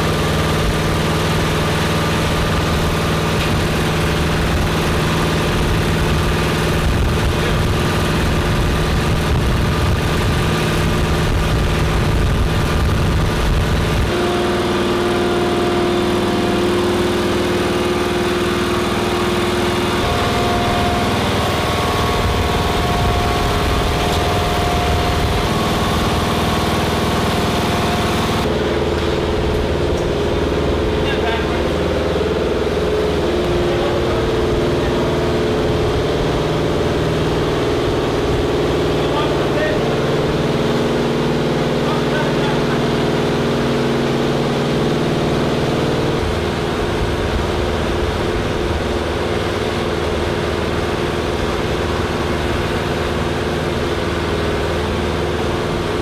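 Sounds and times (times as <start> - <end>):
engine running with low rumble: 0.0 - 56.0.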